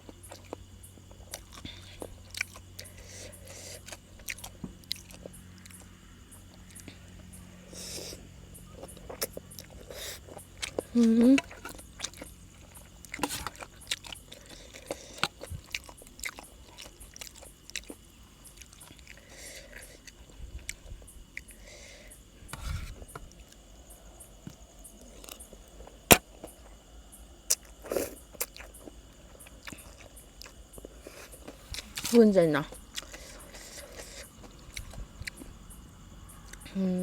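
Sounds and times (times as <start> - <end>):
chewing and crunching food: 0.0 - 37.0
field crickets trilling: 0.0 - 37.0.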